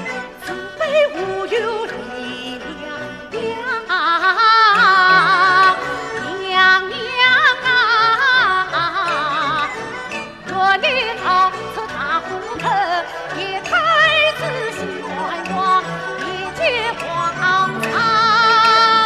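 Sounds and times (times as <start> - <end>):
traditional orchestral accompaniment: 0.0 - 19.0
woman singing opera: 0.0 - 19.0.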